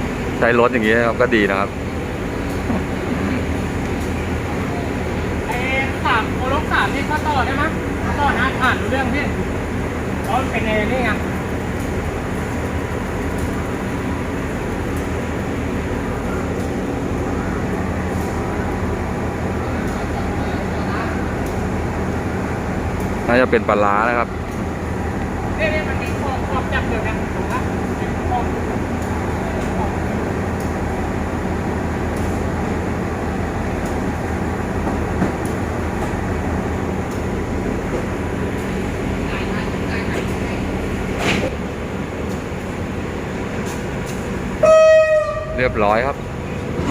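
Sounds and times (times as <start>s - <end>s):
diesel locomotive idling: 0.0s - 46.9s.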